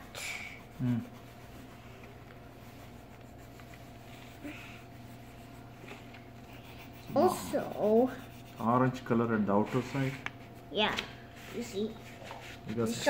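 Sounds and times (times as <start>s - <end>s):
colored pencil scratching on paper: 0.0s - 10.7s.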